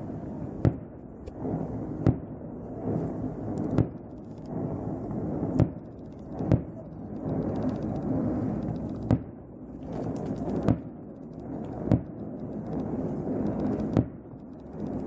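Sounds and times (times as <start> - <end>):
fireworks bangs: 0.0 - 14.8
low background noise: 0.0 - 15.0.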